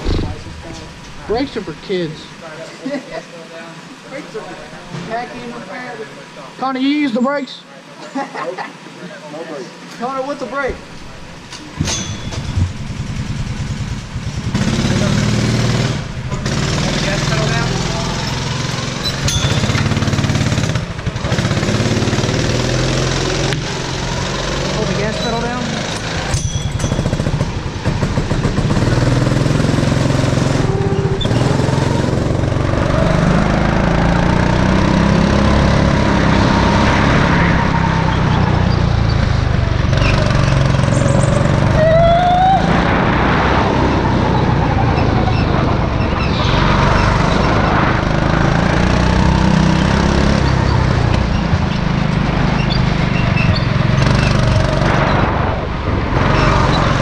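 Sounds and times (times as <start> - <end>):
go-kart engine revving: 0.0 - 2.3, 10.2 - 57.0.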